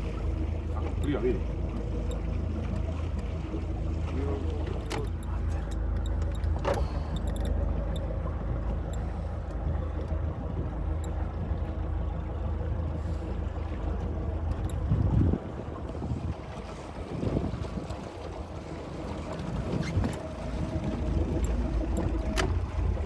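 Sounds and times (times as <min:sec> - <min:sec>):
boat engine droning: 0:00.0 - 0:23.0
water and hull noise: 0:00.0 - 0:23.0.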